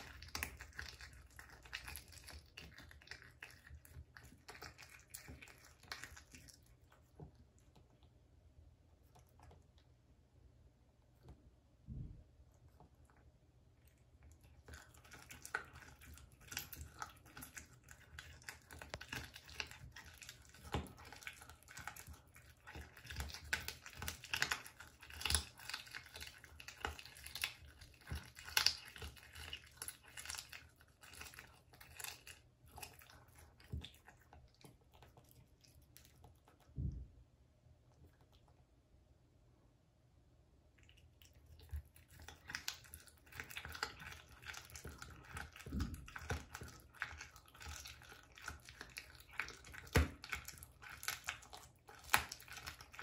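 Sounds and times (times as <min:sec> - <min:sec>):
cat chewing bone: 0:00.0 - 0:10.0, 0:12.3 - 0:38.7, 0:40.7 - 0:53.0.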